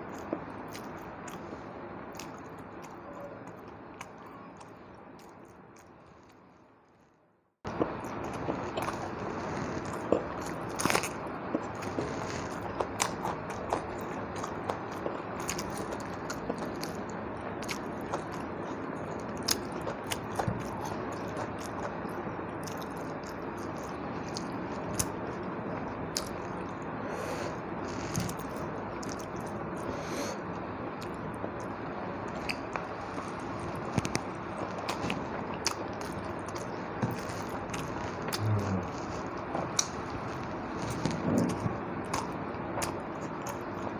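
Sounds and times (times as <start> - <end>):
person chewing: 0.0 - 6.4, 7.7 - 43.9.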